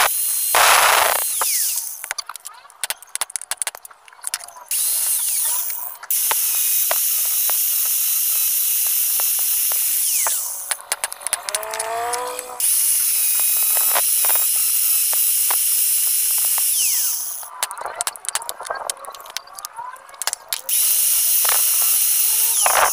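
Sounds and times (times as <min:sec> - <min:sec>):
angle grinder grinding metal: 0:00.0 - 0:02.4, 0:04.6 - 0:18.9, 0:20.2 - 0:22.9
screwdriver clicking and scraping metal: 0:00.0 - 0:22.9.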